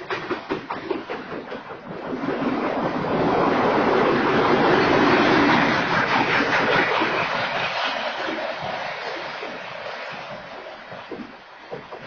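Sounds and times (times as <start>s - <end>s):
train rushing noise: 0.0s - 12.0s
train wheel clacks: 0.0s - 12.0s.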